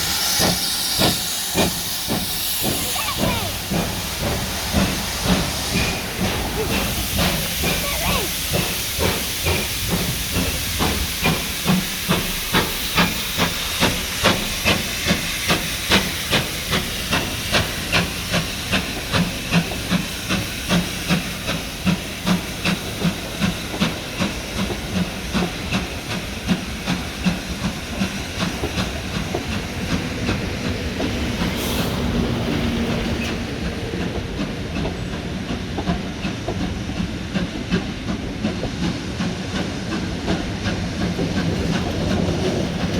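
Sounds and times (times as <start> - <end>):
hissing steam: 0.0 - 42.9
steam locomotive exhaust beats: 0.0 - 42.9.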